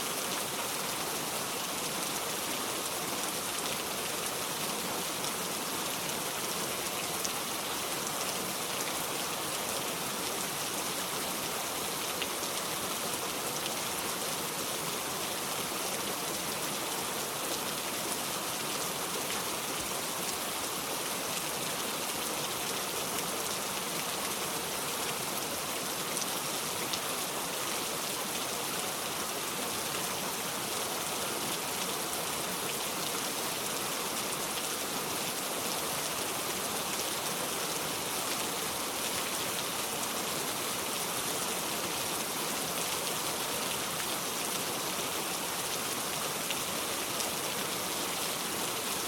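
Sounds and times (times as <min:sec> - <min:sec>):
steady rain: 0:00.0 - 0:49.0.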